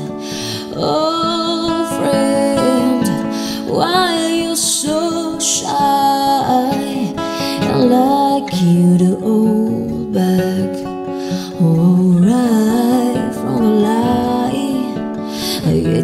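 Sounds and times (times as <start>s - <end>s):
acoustic guitar: 0.0s - 16.0s
person singing slow song: 0.0s - 16.0s.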